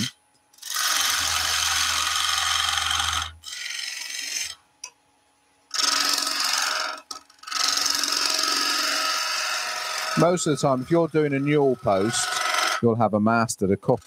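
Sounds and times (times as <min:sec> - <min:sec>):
chisel cutting wood on lathe: 0:00.0 - 0:04.6, 0:05.7 - 0:12.9.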